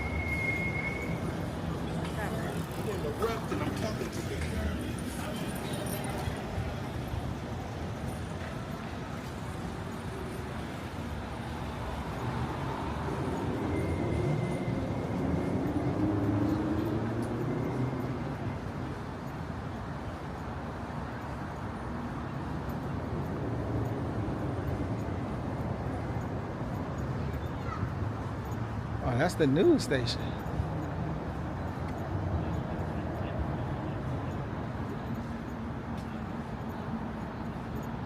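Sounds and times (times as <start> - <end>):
road traffic noise: 0.0 - 38.0.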